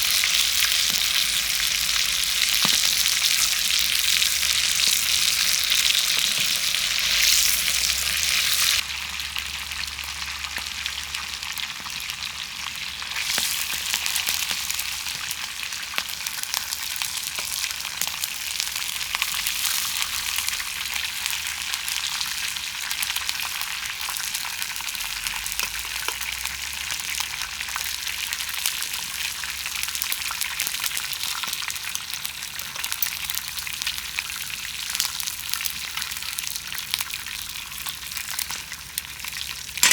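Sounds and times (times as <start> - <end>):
meat sizzling in hot oil: 0.0 - 39.9.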